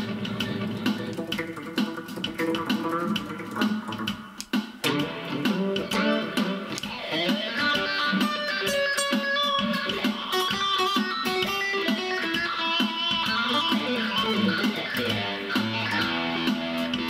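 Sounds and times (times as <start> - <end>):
guitar melody through amp: 0.0 - 17.0.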